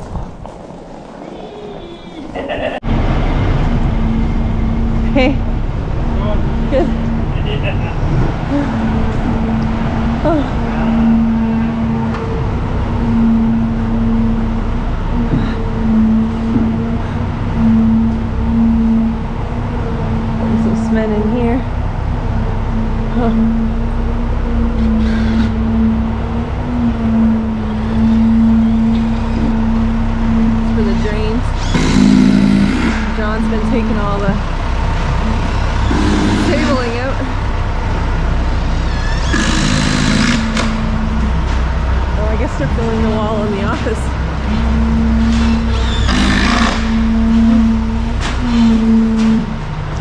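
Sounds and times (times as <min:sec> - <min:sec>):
construction machinery engine running: 0:02.4 - 0:50.0.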